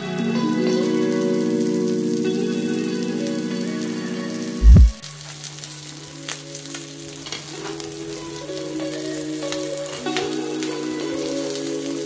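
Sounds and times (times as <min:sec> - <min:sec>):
soft background music: 0:00.0 - 0:12.0
sweetcorn sizzling in hot oil: 0:00.0 - 0:12.0.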